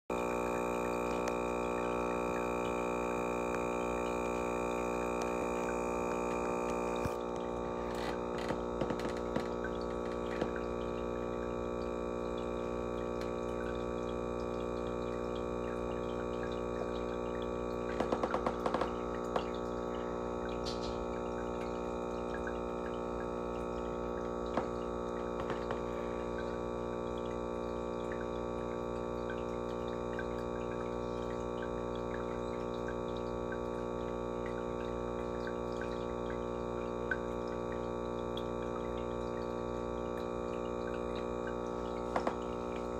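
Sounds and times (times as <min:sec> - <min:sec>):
aquarium equipment hum: 0:00.0 - 0:42.9.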